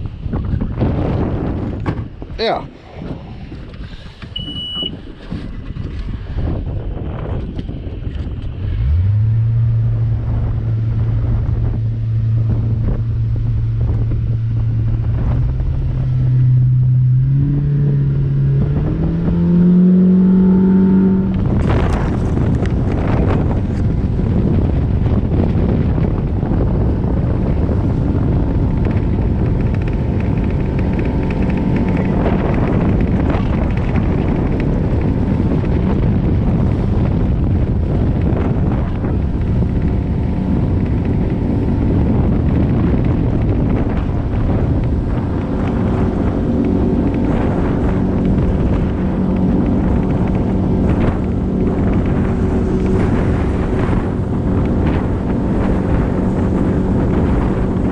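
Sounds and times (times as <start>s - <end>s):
boat motor running: 0.0s - 57.9s
wind buffeting microphone: 0.0s - 57.9s.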